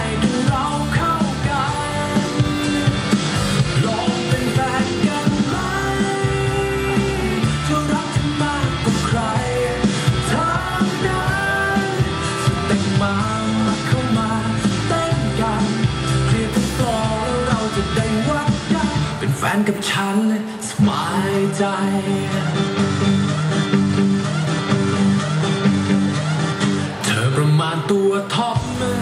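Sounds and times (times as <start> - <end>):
pop song over loudspeakers: 0.0 - 29.0.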